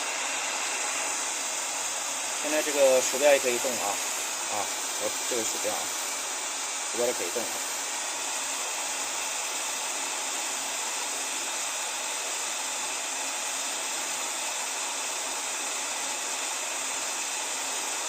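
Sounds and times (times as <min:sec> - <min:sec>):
cooling fan hissing: 0:00.0 - 0:18.0.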